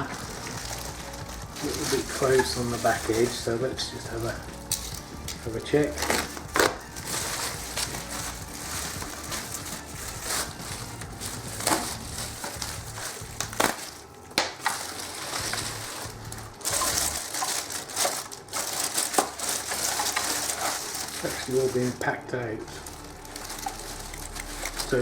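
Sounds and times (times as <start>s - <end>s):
packaging rustling and crinkling: 0.0s - 25.0s.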